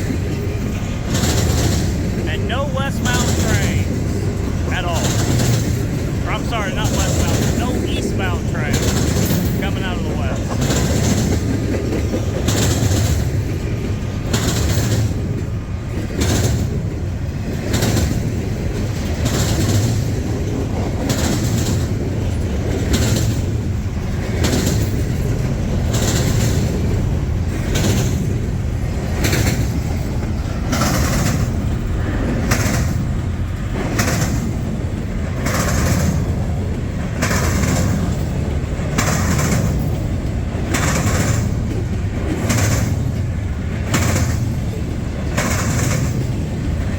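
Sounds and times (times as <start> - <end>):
wheels clacking over rail joint: 0.0 - 2.2, 3.2 - 6.2, 10.4 - 46.9
train wheels rumbling on rail: 0.0 - 46.9.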